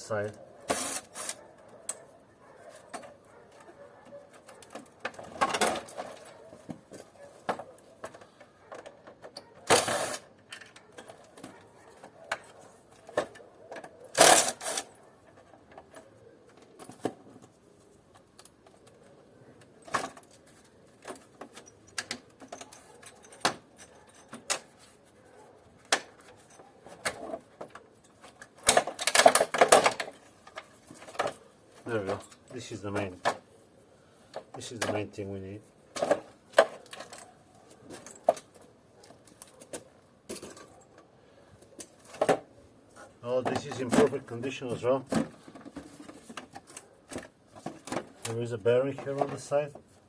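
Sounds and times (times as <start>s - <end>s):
hand tools clicking and tapping metal: 0.3s - 33.5s, 34.2s - 35.3s, 35.9s - 49.9s.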